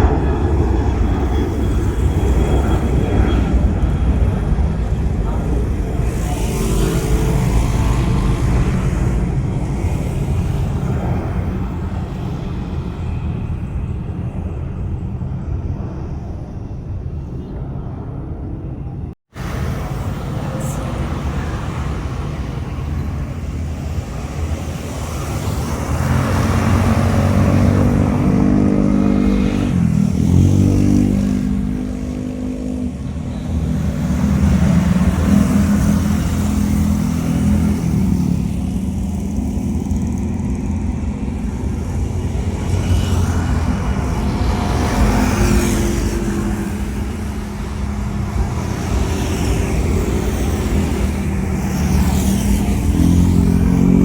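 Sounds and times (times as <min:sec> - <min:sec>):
car engines passing: 0:00.0 - 0:16.1, 0:18.9 - 0:54.0
low traffic rumble: 0:00.0 - 0:54.0.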